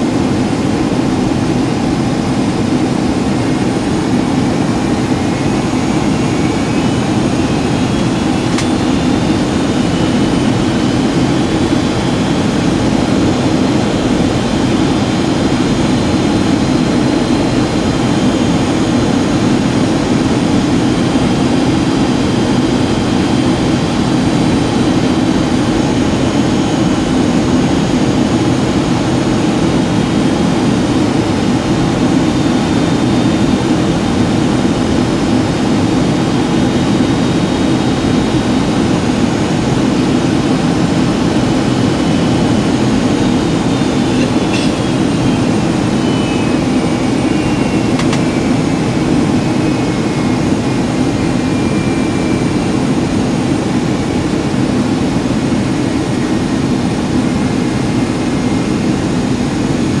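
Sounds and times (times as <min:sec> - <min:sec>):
airplane cabin roar: 0:00.0 - 1:00.0
faint whine falling in pitch: 0:00.0 - 1:00.0.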